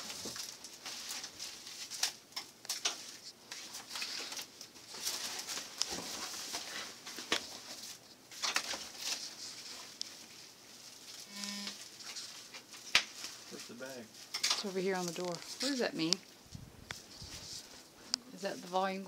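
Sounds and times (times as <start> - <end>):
plastic wrap rustling and crinkling: 0.0 - 19.0.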